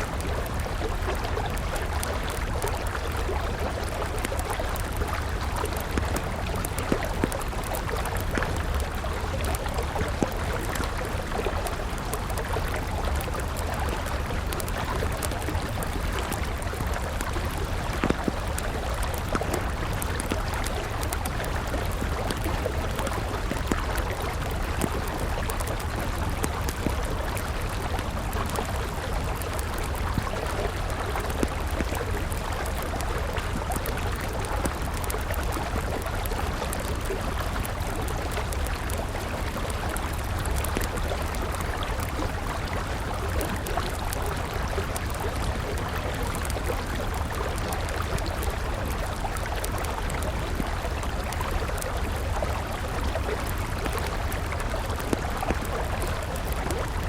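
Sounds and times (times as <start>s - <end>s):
campfire crackling: 0.0s - 57.0s
river flowing: 0.0s - 57.0s.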